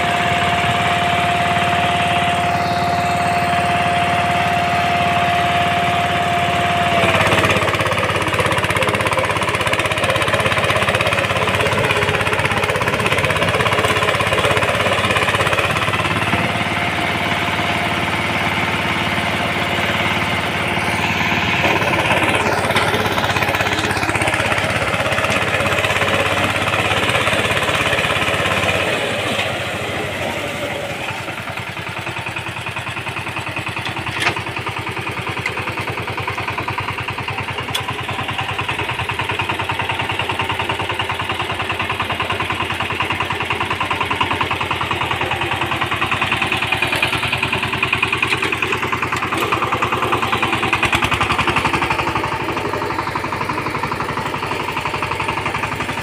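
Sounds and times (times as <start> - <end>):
diesel engine running: 0.0 - 56.0
rotary tiller churning soil: 0.0 - 56.0.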